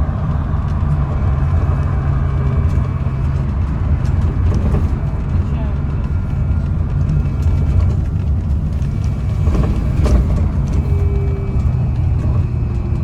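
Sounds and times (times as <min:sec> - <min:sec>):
trolleybus interior rumble: 0:00.0 - 0:13.0.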